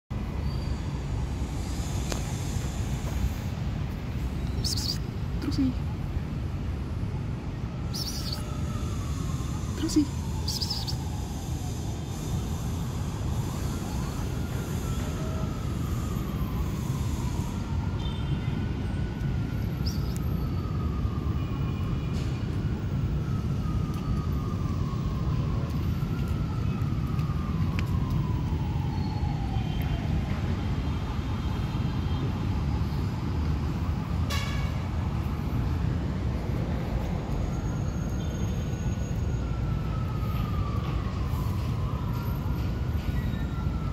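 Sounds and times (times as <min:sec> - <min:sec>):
traffic rumble: 0:00.1 - 0:43.9
emergency siren wailing: 0:04.4 - 0:43.9.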